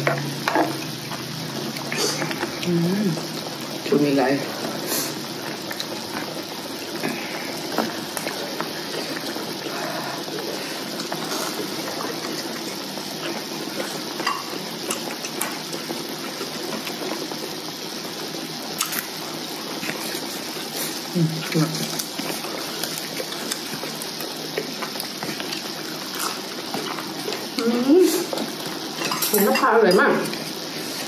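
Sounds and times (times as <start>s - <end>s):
broth bubbling: 0.0s - 31.0s.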